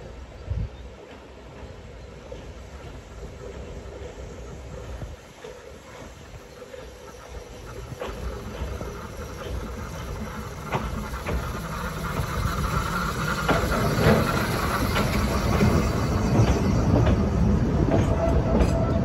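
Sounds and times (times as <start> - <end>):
steam locomotive passing: 0.0 - 19.0
train carriages rolling past: 0.0 - 19.0
steam hissing: 1.3 - 19.0.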